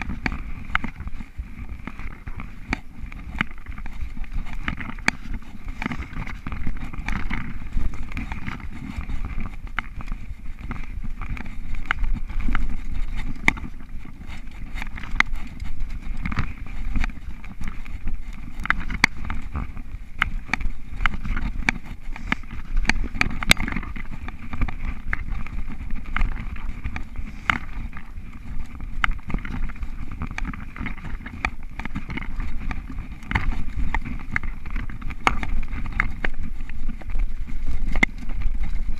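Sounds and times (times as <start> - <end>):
bike clicks knocks and rattles: 0.0 - 38.8
bike tyres rumbling on dirt: 0.0 - 38.9.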